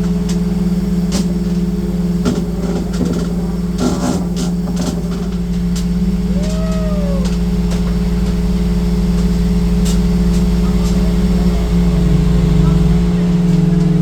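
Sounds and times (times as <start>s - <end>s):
machine deep hum: 0.0s - 14.0s.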